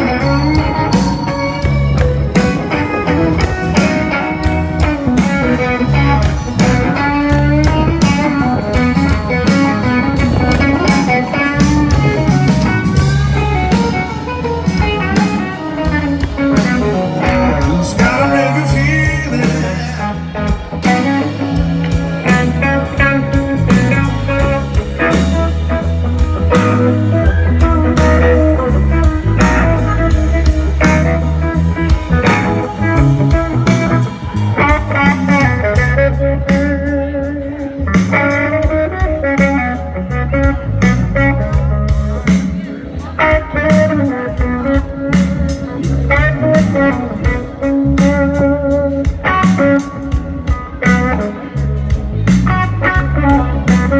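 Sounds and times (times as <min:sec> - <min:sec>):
blues-rock band playing: 0:00.0 - 0:53.9
electric guitars: 0:00.0 - 0:53.9.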